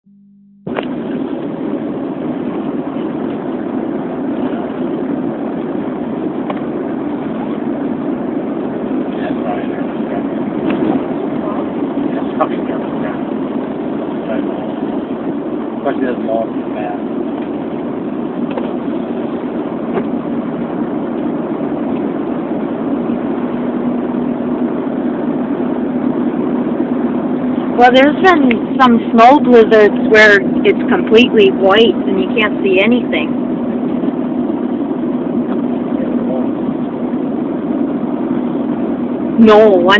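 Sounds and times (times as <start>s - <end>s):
car cabin road and engine rumble: 0.0s - 39.9s.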